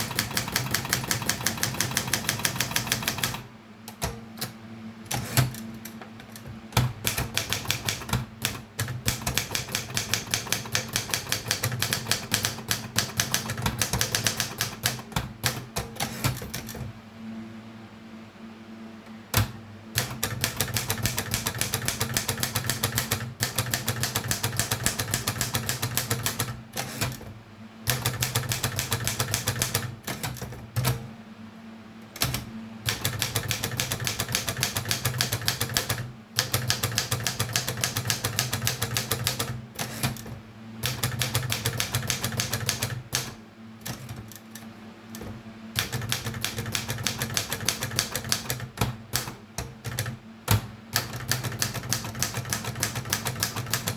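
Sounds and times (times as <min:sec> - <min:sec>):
typewriter key strikes: 0:00.0 - 0:05.6, 0:06.2 - 0:16.8, 0:19.4 - 0:27.2, 0:27.9 - 0:31.0, 0:32.2 - 0:53.9
steady low hum: 0:00.0 - 0:53.9.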